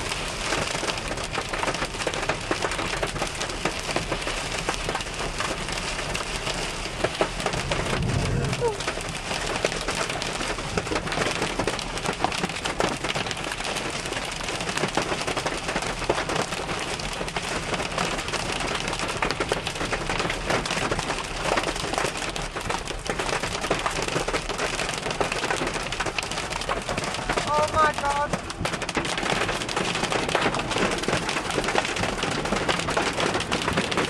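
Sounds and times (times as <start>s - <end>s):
hail and rain pelting a car: 0.0s - 34.0s.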